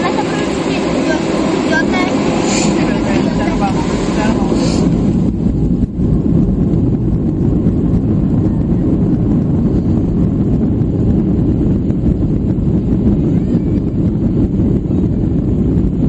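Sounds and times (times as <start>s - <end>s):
jet engine cabin rumble: 0.0s - 16.0s.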